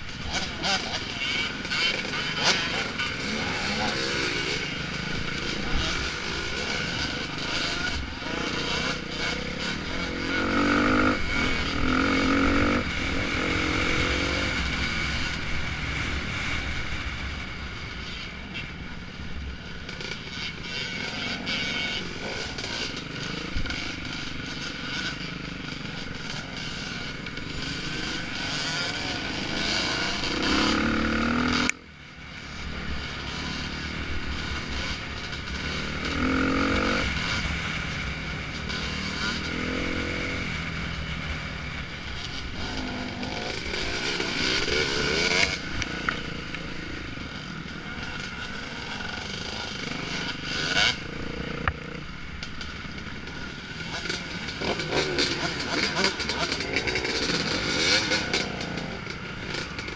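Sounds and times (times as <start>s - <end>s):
dirt bike engine revving: 0.0s - 18.3s, 19.8s - 31.7s, 32.4s - 59.9s.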